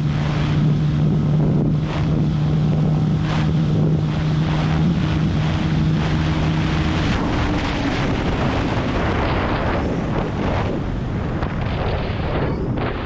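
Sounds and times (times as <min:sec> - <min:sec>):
motorcycle engine high-rev drone: 0:00.0 - 0:13.0
wind rush over microphone: 0:00.0 - 0:13.0.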